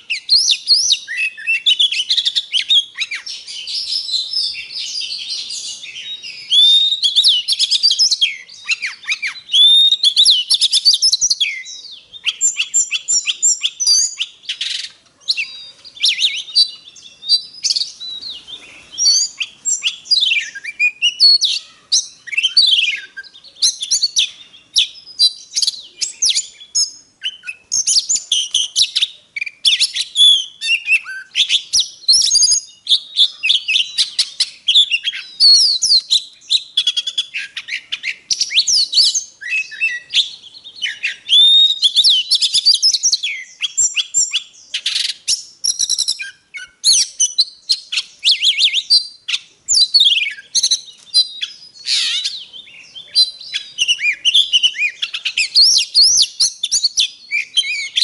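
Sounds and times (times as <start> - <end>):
songbird whistles and trills: 0.0 - 58.0.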